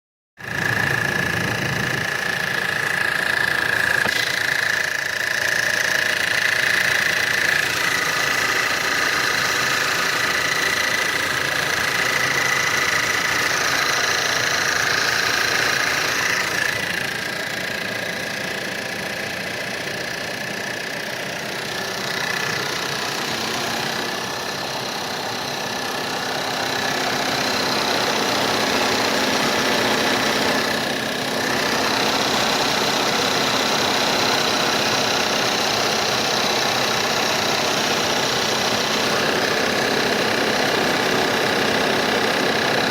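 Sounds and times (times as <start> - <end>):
car engine idling with knock: 0.4 - 42.9
steady high whine: 0.4 - 42.9.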